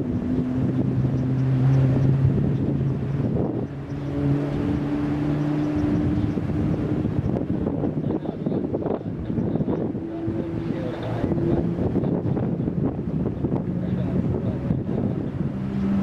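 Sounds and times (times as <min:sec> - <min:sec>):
engine drone: 0:00.0 - 0:16.0
wind noise on microphone: 0:00.0 - 0:16.0.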